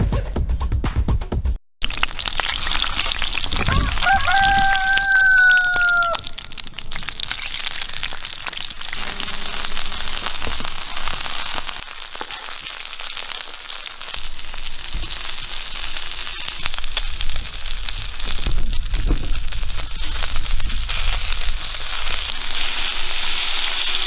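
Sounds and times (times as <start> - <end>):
meat sizzling: 1.8 - 24.0
pops and crackles: 1.8 - 24.0.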